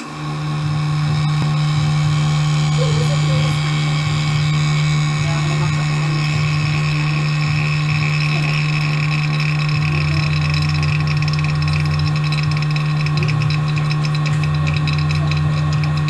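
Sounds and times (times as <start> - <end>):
low hum: 0.0 - 16.0
vacuum pump humming: 0.0 - 16.0.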